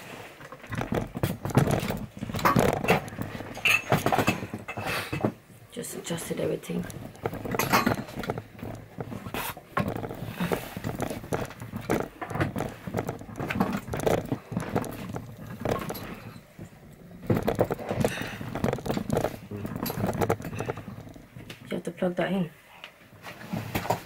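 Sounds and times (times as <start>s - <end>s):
equipment being handled: 0.0s - 21.6s, 23.1s - 24.0s.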